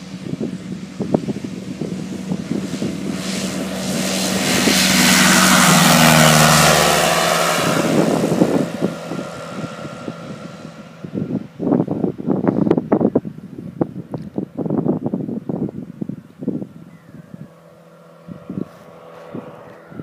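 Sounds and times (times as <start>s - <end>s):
aircraft engine and propeller drone: 0.0s - 20.0s
wind buffeting microphone: 0.0s - 20.0s.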